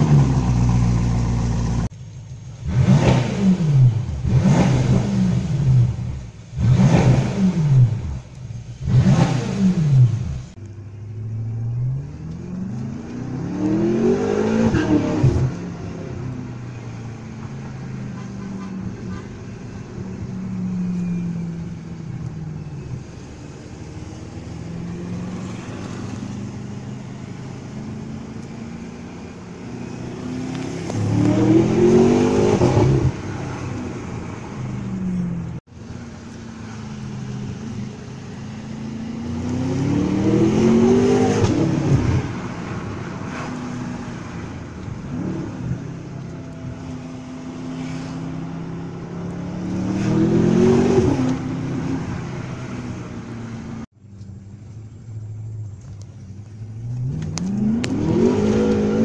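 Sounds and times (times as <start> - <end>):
car engine accelerating: 0.0 - 18.2, 19.6 - 59.0.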